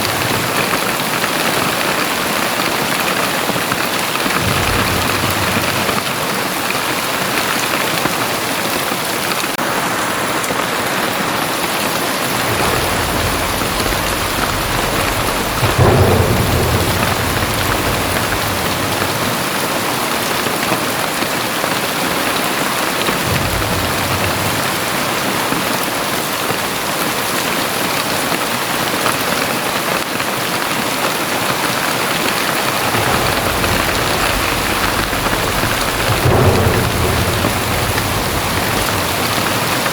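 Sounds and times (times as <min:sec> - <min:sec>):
thunder rumbling: 0:00.0 - 0:27.7, 0:30.5 - 0:39.9
heavy rain pouring: 0:00.0 - 0:39.9.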